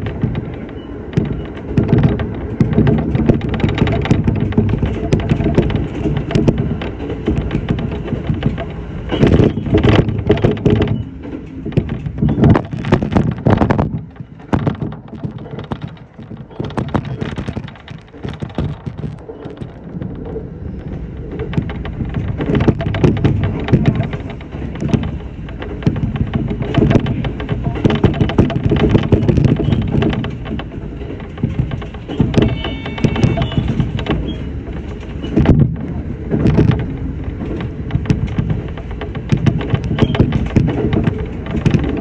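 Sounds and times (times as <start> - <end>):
knocks and rattles: 0.0 - 42.0
train wheels rumbling: 0.0 - 42.0.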